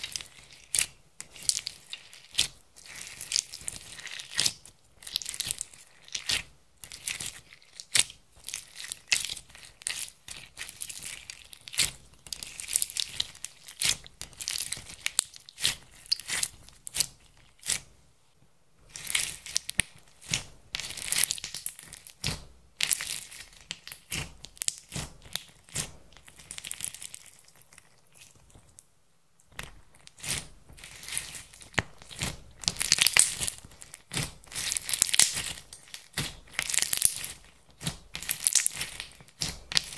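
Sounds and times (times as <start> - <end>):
sticky slime crackling: 0.0 - 17.9, 18.9 - 28.8, 29.4 - 39.9.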